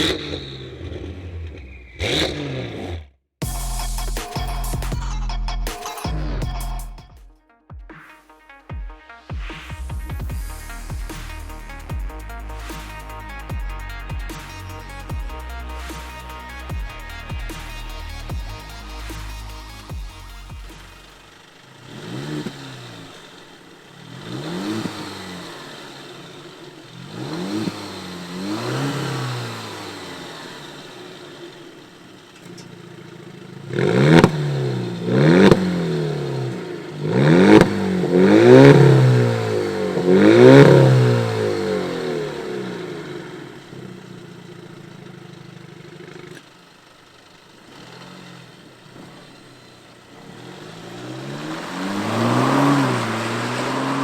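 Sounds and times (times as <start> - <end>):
car engine revving: 0.0 - 5.4, 9.6 - 54.0
exhaust crack: 0.0 - 7.3, 9.2 - 54.0.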